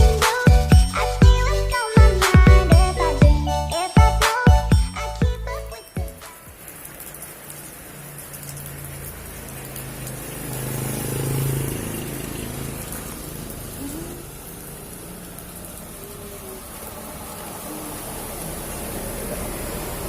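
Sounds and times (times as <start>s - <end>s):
scooter engine idling and revving: 0.0s - 6.2s, 8.7s - 20.0s.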